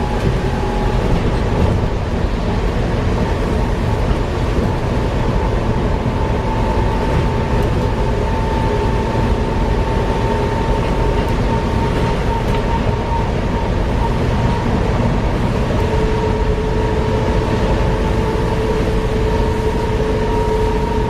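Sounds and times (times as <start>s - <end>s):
bus engine rumble: 0.0s - 21.0s
steady whine: 0.0s - 21.0s.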